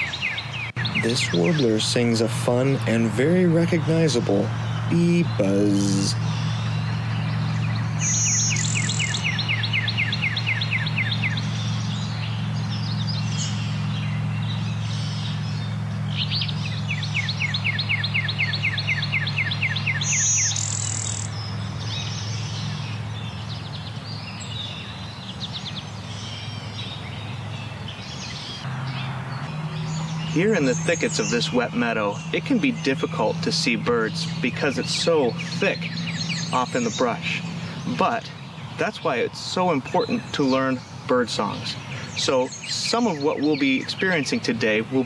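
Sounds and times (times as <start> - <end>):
small birds chipping and trilling: 0.0 - 45.0
warbler buzzy song: 0.0 - 45.0.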